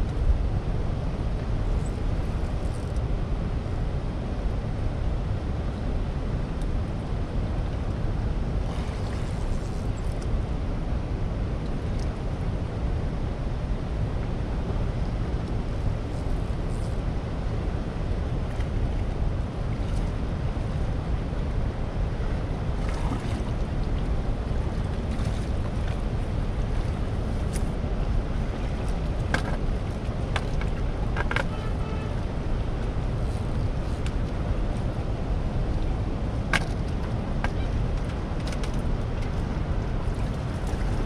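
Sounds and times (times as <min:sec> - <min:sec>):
churning water rushing: 0:00.0 - 0:41.0.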